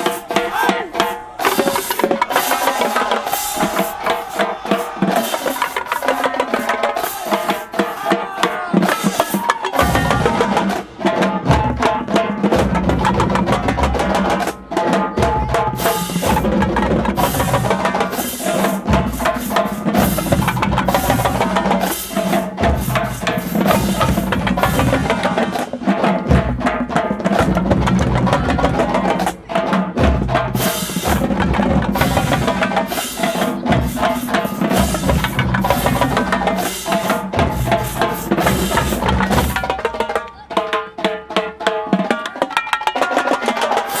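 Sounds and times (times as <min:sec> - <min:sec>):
drumline playing cadence: 0:00.0 - 0:44.0.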